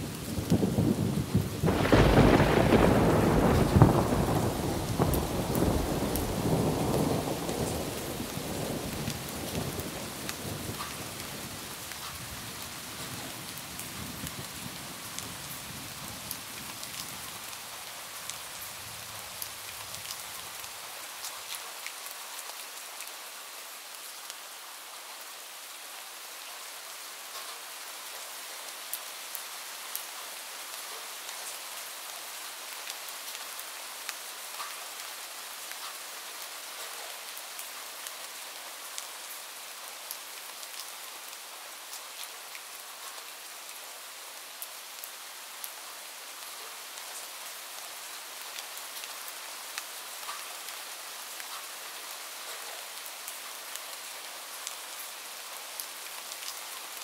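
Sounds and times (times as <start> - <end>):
steady rain falling: 0.0 - 57.0
raindrops ticking close by: 0.1 - 24.4, 27.2 - 57.0.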